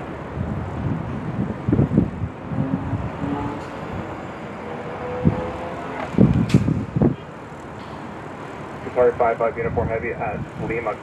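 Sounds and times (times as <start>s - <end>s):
airliner engine roar: 0.0s - 11.0s
road traffic: 0.0s - 11.0s
wind gusting on microphone: 0.0s - 11.0s.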